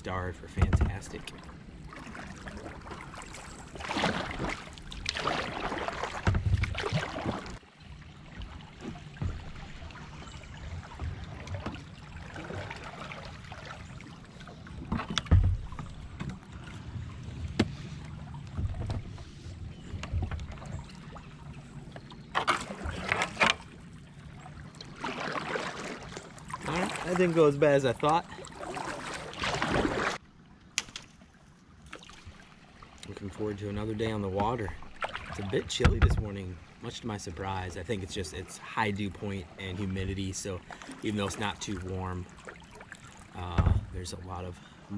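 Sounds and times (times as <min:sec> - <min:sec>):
paddle strokes splashing in water: 0:00.6 - 0:30.2, 0:31.8 - 0:44.4.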